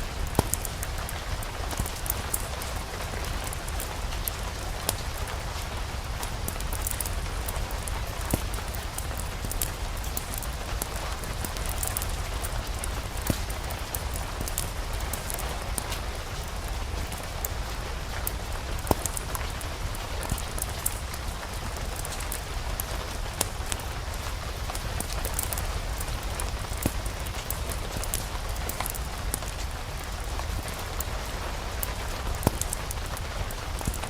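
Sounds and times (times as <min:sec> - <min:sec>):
fireplace fire crackling: 0:00.0 - 0:34.0
steady rain: 0:00.0 - 0:34.0.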